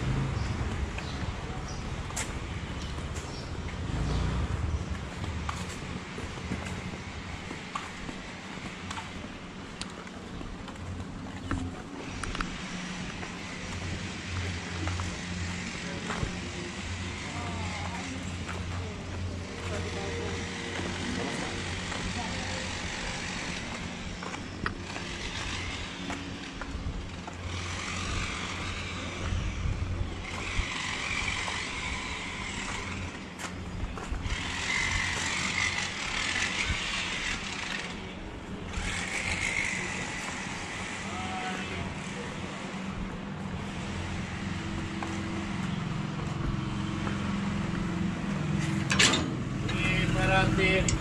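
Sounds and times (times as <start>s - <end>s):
distant traffic: 0.0s - 51.0s
low street rumble: 0.0s - 51.0s.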